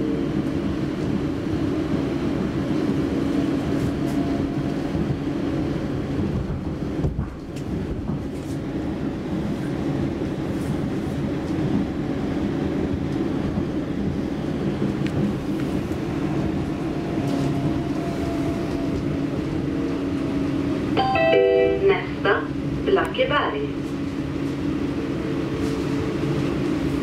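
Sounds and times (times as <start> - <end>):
subway wheels rumbling on rail: 0.0 - 27.0.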